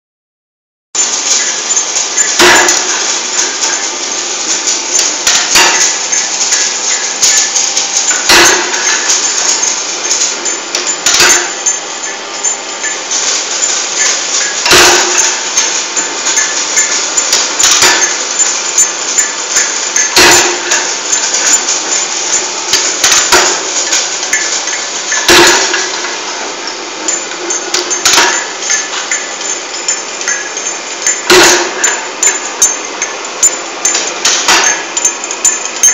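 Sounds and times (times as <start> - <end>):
machine clattering clicks: 1.0 - 35.9.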